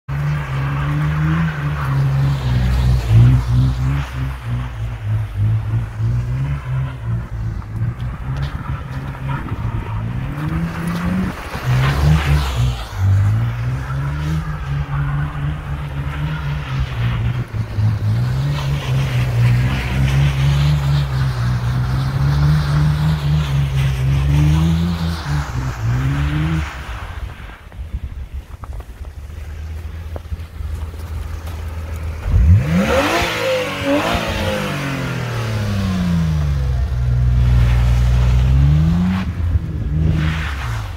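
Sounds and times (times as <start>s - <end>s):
car engine revving: 0.1s - 27.8s, 29.3s - 40.9s.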